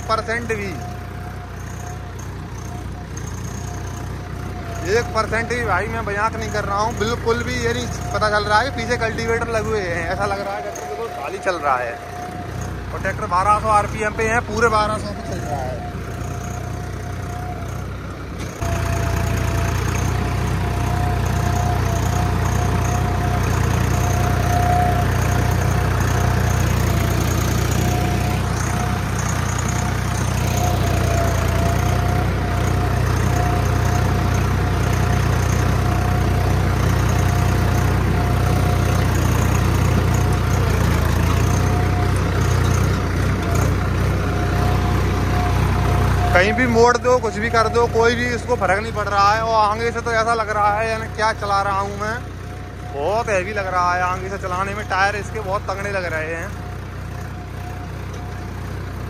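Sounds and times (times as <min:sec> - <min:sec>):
steady whine: 0:00.0 - 0:56.6
tractor diesel engine running: 0:00.0 - 0:59.0.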